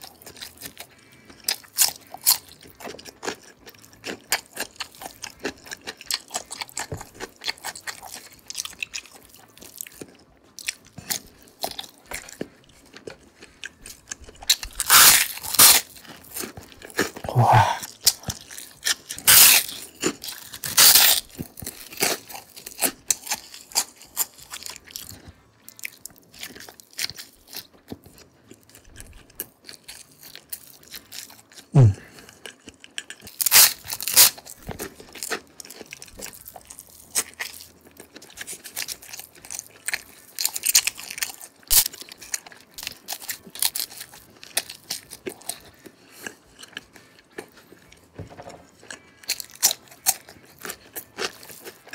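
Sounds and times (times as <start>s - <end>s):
person chewing crunchy food: 0.0s - 51.9s.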